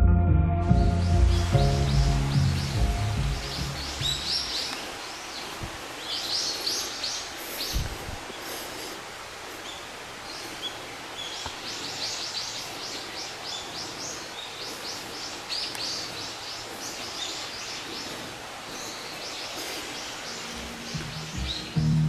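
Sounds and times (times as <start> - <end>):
small birds chirping: 0.8 - 22.0
steady background hiss: 1.0 - 22.0.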